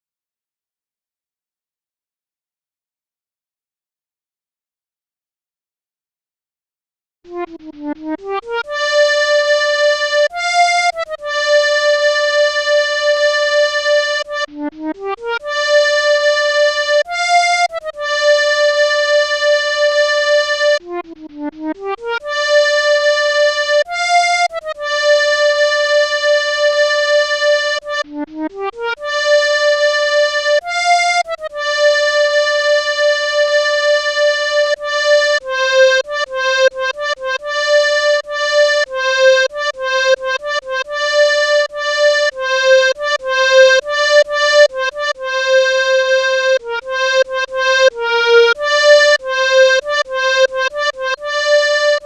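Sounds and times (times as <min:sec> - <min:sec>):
melodica melody: 0:07.3 - 0:52.0.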